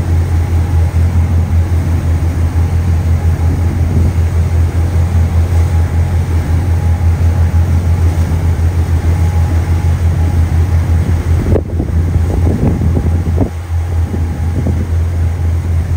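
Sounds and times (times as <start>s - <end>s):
ship engines droning: 0.0s - 15.9s
wind buffeting microphone: 0.0s - 15.9s.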